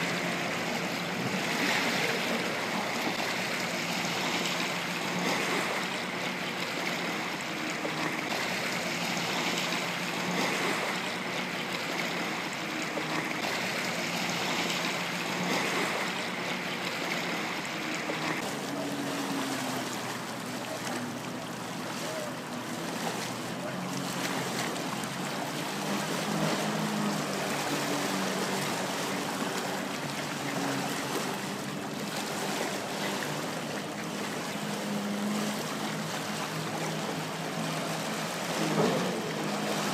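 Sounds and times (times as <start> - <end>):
distant jet ski engines: 0.0 - 39.9
water wash: 0.0 - 39.9.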